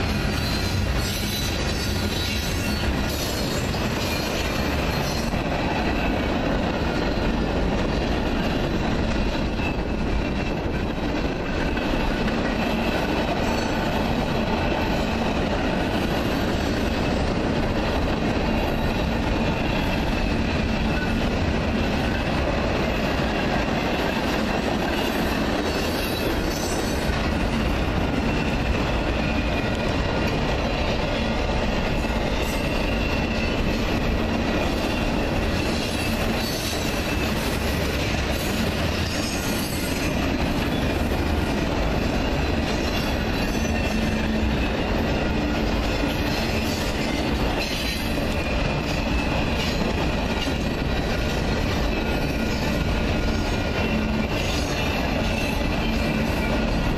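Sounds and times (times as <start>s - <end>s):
freight train wheels rumbling on rails: 0.0s - 56.9s.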